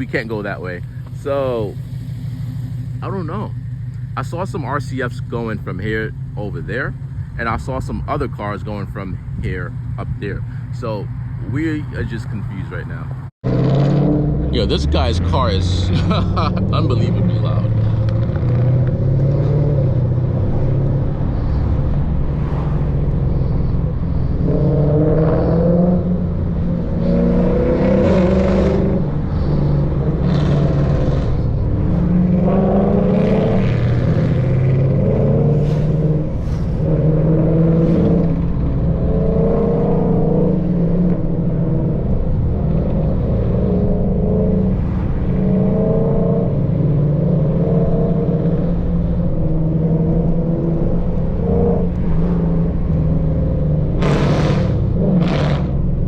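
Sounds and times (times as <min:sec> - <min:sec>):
loud engine revving: 0:04.2 - 0:56.0.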